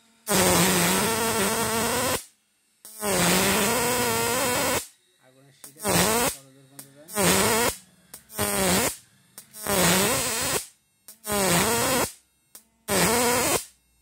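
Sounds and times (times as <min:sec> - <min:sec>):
electric arc buzzing: 0:00.0 - 0:14.0.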